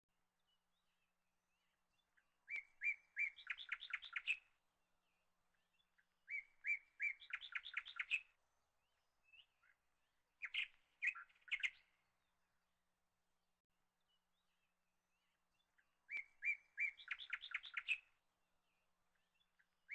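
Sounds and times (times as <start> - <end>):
songbird singing: 0.3 - 13.0, 13.8 - 19.9.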